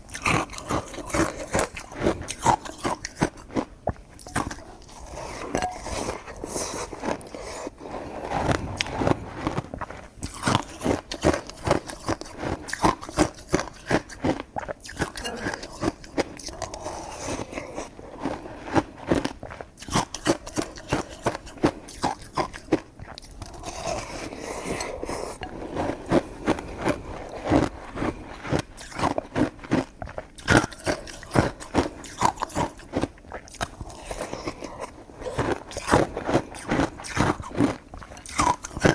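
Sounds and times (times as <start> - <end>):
person chewing with wet smacks: 0.0 - 38.9.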